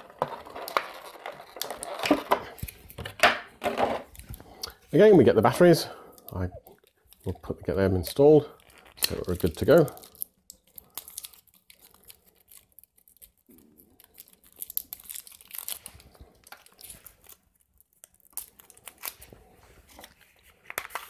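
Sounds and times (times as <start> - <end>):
plastic wrapping crinkling and tearing: 0.0 - 3.2, 6.2 - 21.0.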